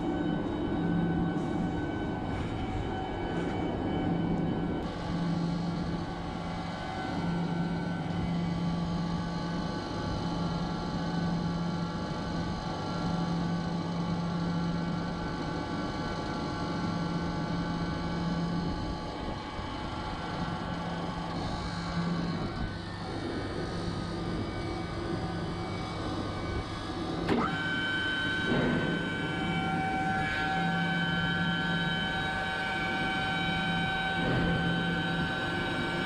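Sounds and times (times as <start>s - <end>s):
chiller machine noise: 0.0s - 36.0s
pulsing low hum: 0.0s - 36.0s.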